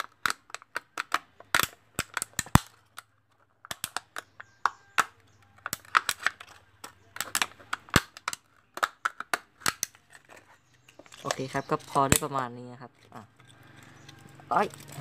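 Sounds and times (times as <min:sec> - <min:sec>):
plastic bottle crackling: 0:00.0 - 0:12.4.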